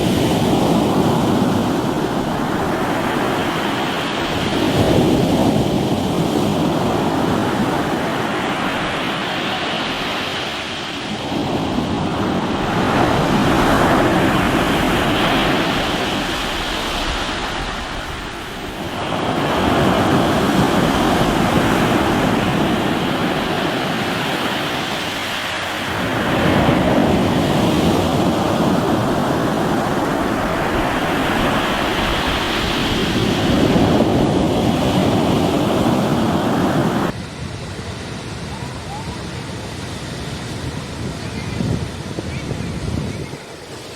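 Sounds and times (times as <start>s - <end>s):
waves breaking on rocky shore: 0.0s - 41.2s
wind on microphone: 0.0s - 43.9s.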